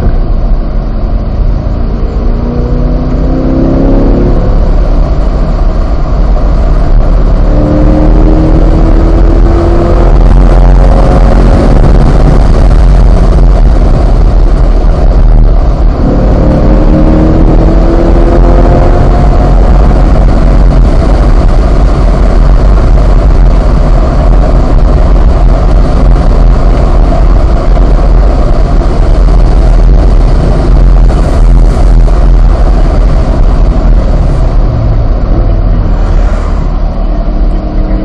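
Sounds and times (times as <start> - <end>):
car engine revving high: 0.0 - 38.0
wind noise: 0.0 - 38.0.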